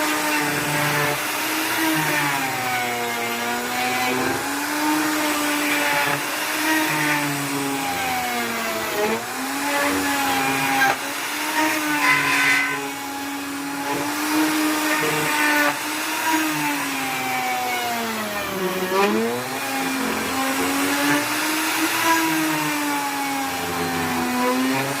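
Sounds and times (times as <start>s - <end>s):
electric planer motor whine: 0.0s - 25.0s.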